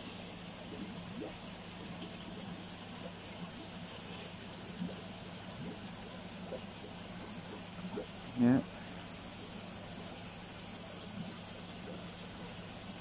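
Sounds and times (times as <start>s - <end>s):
low steady hum: 0.0s - 13.0s
pond water running: 0.0s - 13.0s.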